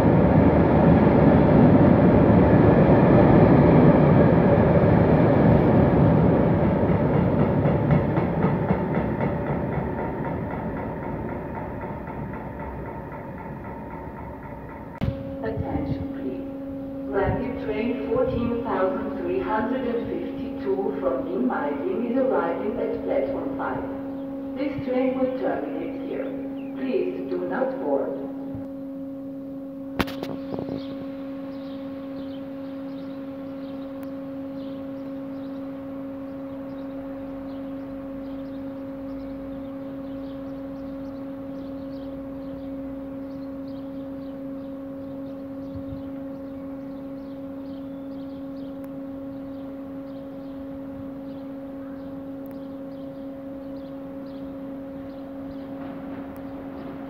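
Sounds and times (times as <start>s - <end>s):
electrical hum: 0.0s - 57.0s
train coming in: 0.0s - 57.0s.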